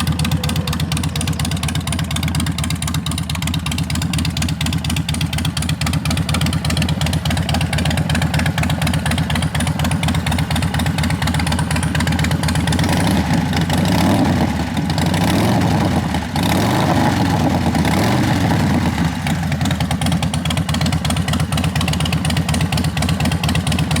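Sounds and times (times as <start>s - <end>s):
motorcycle idling and revving: 0.0s - 24.0s.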